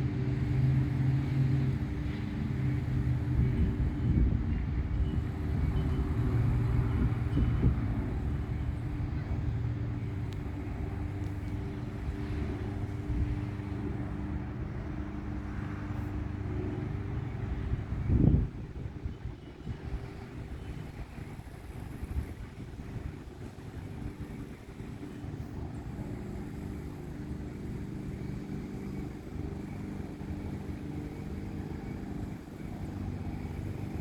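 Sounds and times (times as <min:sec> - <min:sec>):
engine droning: 0:00.0 - 0:34.0.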